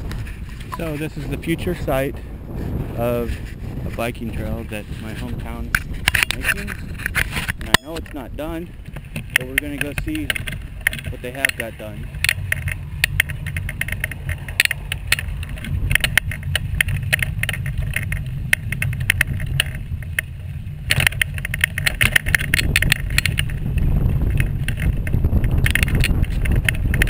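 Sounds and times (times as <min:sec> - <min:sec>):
wheels rolling on rough path: 0:00.0 - 0:27.0.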